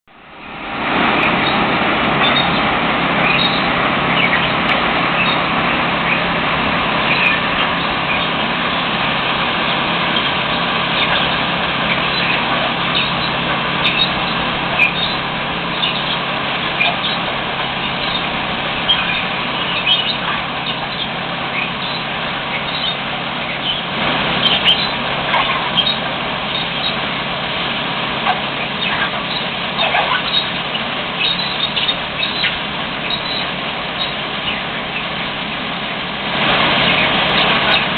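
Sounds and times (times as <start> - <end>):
engine hum: 0.0 - 37.9
loud machinery din: 0.2 - 37.9.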